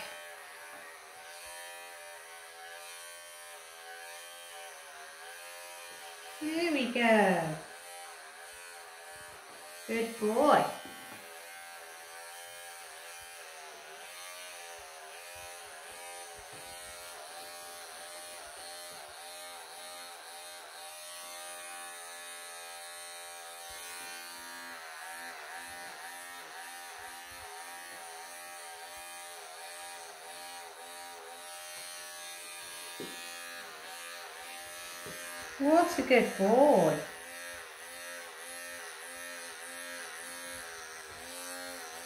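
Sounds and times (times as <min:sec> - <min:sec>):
electric clippers buzzing: 0:00.0 - 0:42.0.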